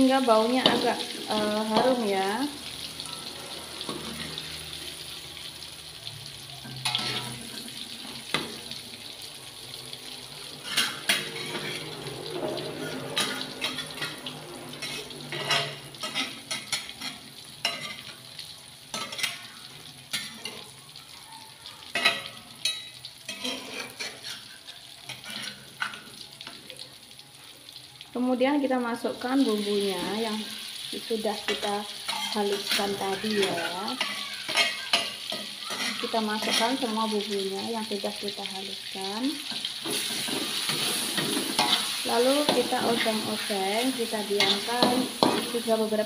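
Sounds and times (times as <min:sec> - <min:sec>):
oil crackling and popping: 0:00.0 - 0:28.2, 0:29.2 - 0:46.0
ginger sizzling in a wok: 0:00.0 - 0:46.0.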